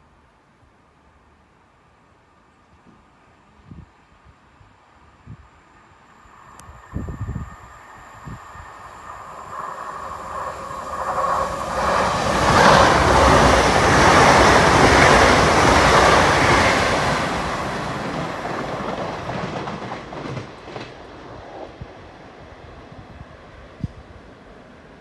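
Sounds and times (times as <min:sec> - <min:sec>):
train passing through station: 0:00.0 - 0:25.0.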